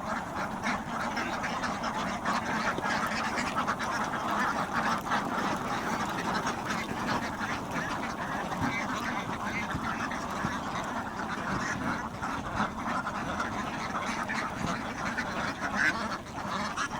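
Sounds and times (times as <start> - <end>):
many overlapping animal calls: 0.0 - 16.9.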